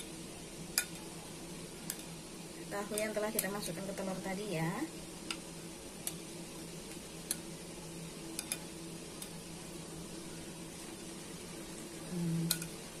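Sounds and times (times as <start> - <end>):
hot oil crackling and popping: 0.0 - 13.0
low steady hum: 0.0 - 13.0.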